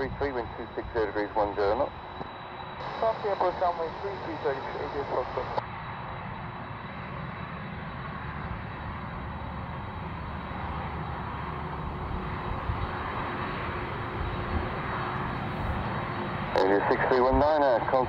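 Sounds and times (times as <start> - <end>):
jet engines rumbling and hissing: 0.0 - 18.0.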